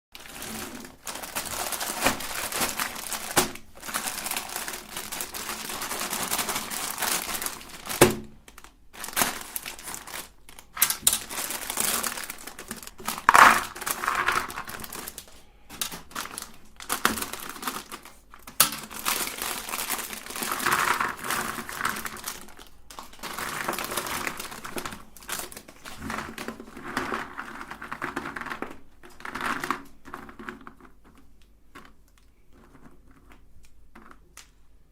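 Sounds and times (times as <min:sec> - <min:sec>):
cookies crunching in grinder: 0:00.2 - 0:34.6.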